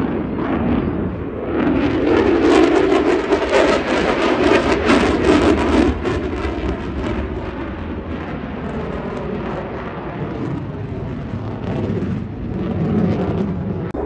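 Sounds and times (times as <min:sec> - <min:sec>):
fighter jet engine roar: 0:00.0 - 0:14.0.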